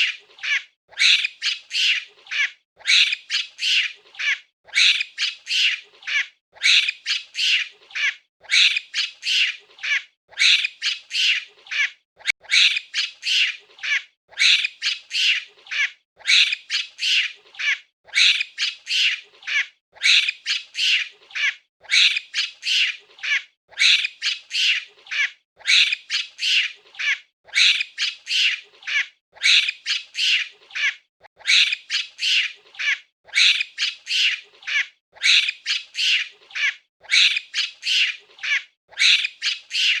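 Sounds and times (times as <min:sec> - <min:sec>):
monkey squawking chatter: 0:00.0 - 0:40.0.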